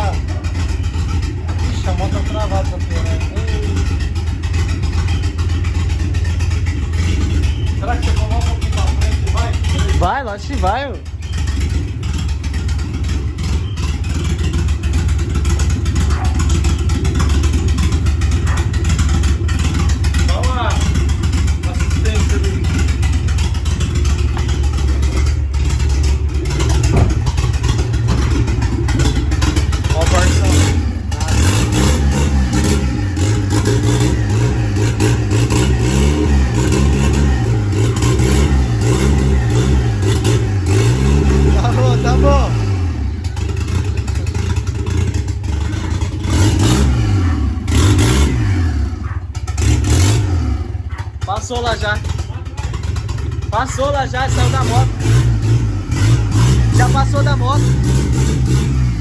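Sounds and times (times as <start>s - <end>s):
road and wind noise: 0.0s - 59.0s
vehicle engine humming: 0.0s - 59.0s.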